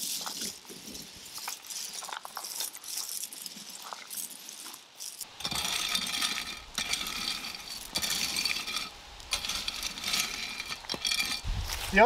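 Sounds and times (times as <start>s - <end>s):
gravel scraping and clinking: 0.0s - 12.0s.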